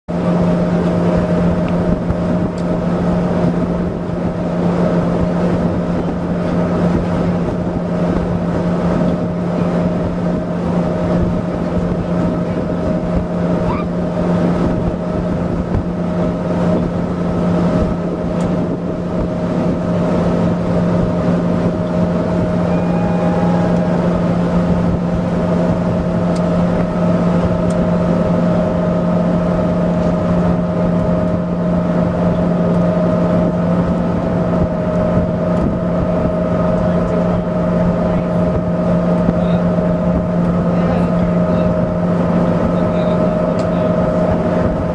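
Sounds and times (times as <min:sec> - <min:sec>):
constant rushing noise: 0:00.1 - 0:44.9
motorboat engine running: 0:00.1 - 0:44.9.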